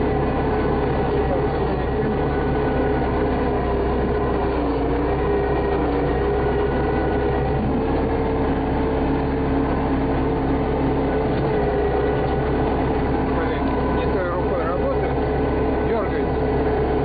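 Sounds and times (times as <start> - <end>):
earth-moving machine engine running: 0.0 - 17.0.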